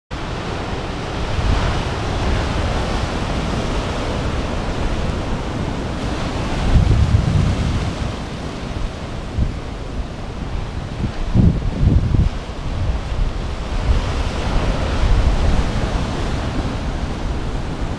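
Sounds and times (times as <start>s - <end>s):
surf breaking on rocky shore: 0.2s - 17.9s.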